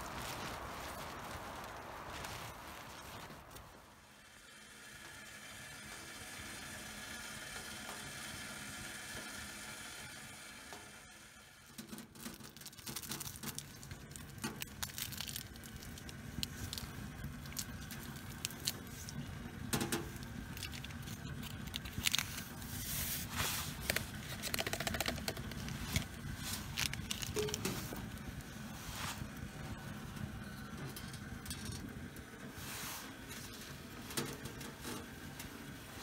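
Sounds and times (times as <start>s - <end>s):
stove low rumble: 0.0s - 36.0s
wood stove crackling: 0.0s - 36.0s.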